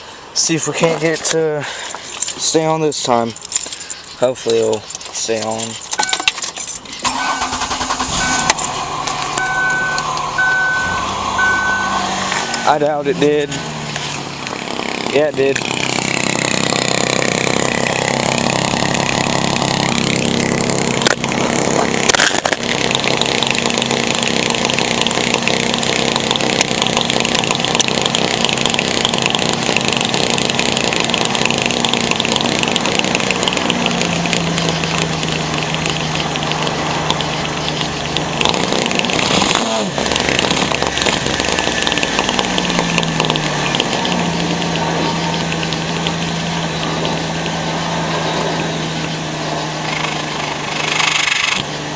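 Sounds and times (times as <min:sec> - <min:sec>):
minivan engine running: 0:00.0 - 0:51.9
sharp clicks: 0:01.1 - 0:51.9.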